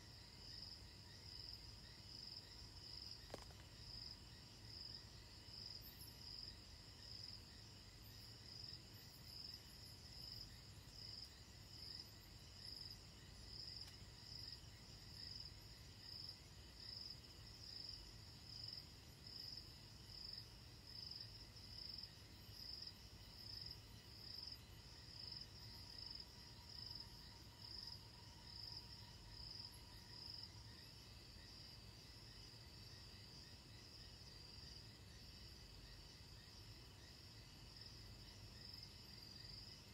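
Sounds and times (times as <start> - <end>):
faint insect chirping: 0.0 - 39.9.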